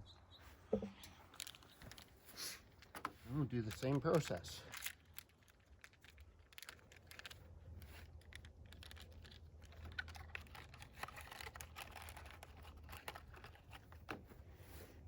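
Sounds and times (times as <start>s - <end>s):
hands handling bottles and cloths: 0.7s - 15.0s.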